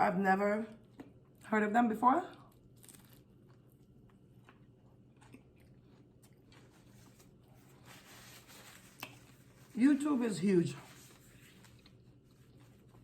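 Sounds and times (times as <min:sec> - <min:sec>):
faint chewing: 0:00.7 - 0:01.5, 0:02.2 - 0:09.8, 0:10.8 - 0:13.0.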